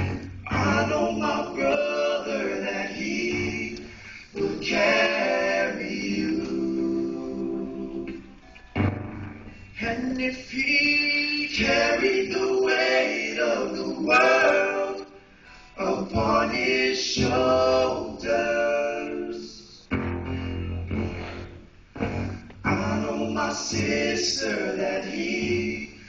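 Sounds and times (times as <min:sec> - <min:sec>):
group singing gospel song: 0:00.0 - 0:26.0.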